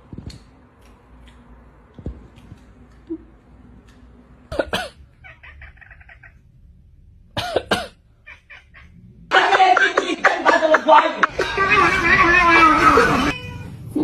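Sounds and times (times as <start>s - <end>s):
animal chattering: 0.3s - 13.4s
animal coughing: 1.0s - 13.3s.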